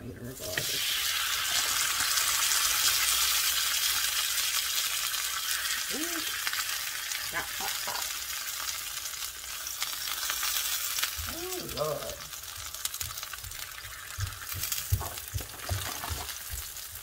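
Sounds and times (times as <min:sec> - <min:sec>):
tortillas sizzling on a griddle: 0:00.6 - 0:17.0.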